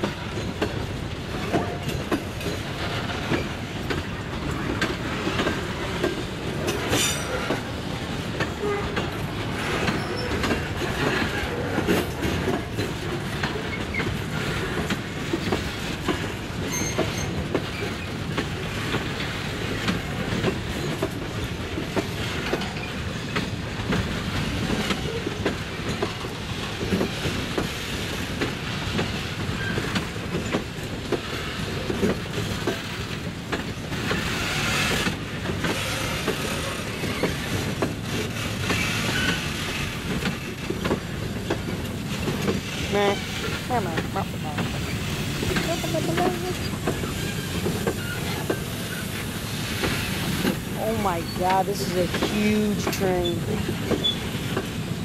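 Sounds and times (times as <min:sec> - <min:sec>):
train rolling rumble: 0:00.0 - 0:55.0
wheels clacking over rail joints: 0:00.0 - 0:55.0.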